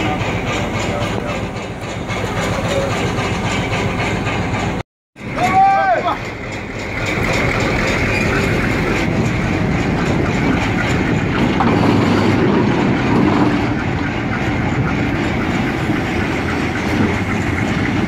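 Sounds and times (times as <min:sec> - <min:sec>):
steel wheels on rails: 0:00.0 - 0:18.0
train rolling past: 0:00.0 - 0:18.0.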